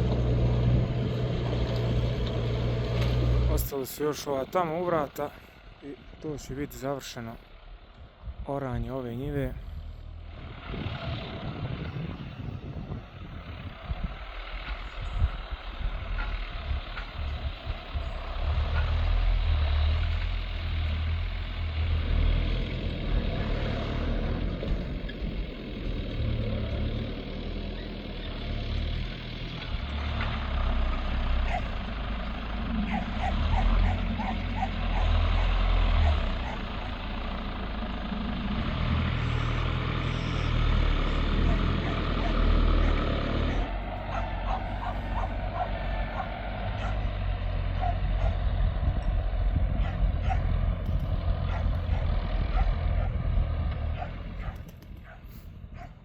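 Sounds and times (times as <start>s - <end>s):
tractor engine under load: 0.0s - 55.9s.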